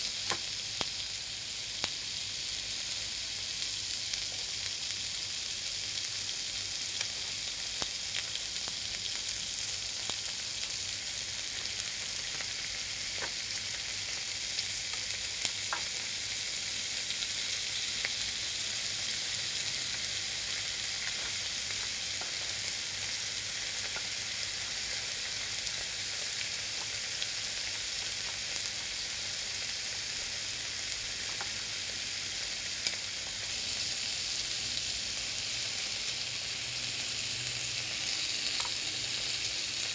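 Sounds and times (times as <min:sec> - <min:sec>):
pork sizzling on a grill pan: 0:00.0 - 0:39.9.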